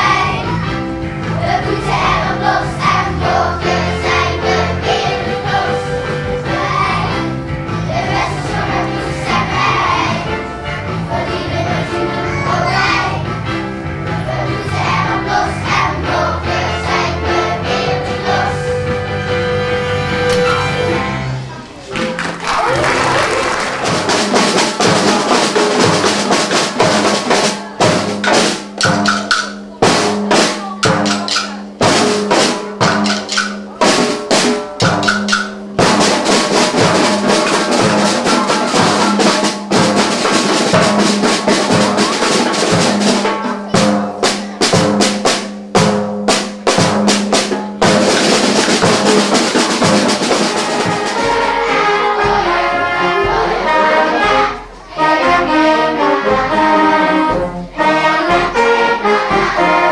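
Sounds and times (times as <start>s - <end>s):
snare and bass drums playing: 0.0s - 10.4s, 22.0s - 59.9s
held band chords: 0.0s - 59.9s.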